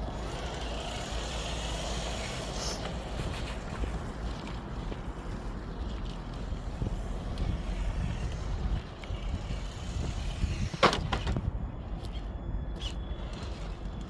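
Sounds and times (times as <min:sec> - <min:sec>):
distant highway traffic rumble: 0:00.0 - 0:14.0.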